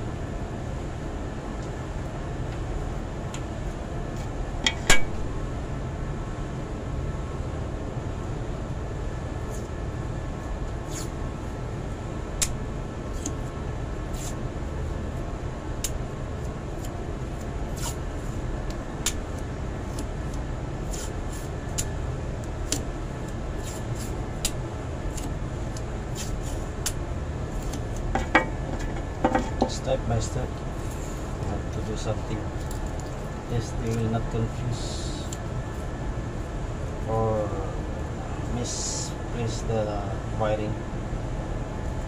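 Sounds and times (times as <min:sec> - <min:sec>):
steady low rumbling: 0:00.0 - 0:42.0.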